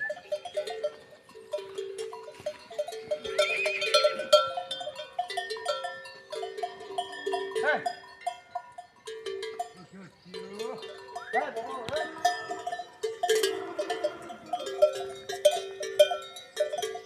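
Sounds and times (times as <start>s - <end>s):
livestock bells clanking: 0.0s - 17.0s.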